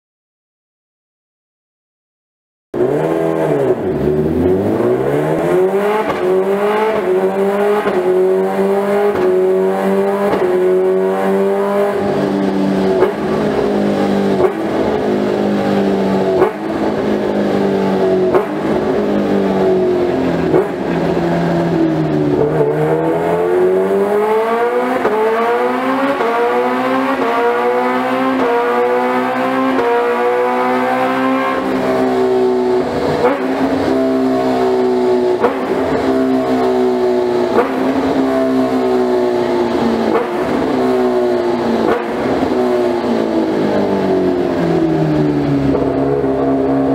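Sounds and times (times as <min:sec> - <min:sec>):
motorcycle engine revving through gears: 0:02.8 - 0:46.9.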